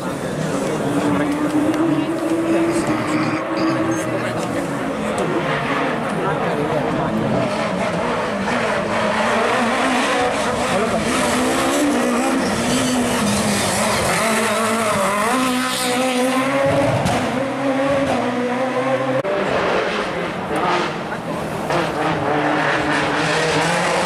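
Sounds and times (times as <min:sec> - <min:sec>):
rally car engine revving hard: 0:00.2 - 0:24.0.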